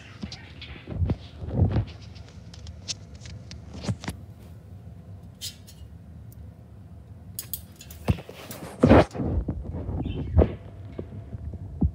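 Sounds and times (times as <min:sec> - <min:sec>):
ceiling fan humming: 0:00.0 - 0:11.9.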